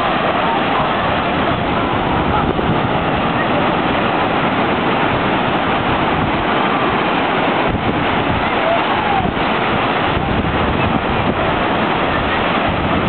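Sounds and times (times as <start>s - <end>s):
surf breaking over shallows: 0.0s - 13.0s
wind buffeting microphone: 0.0s - 13.0s.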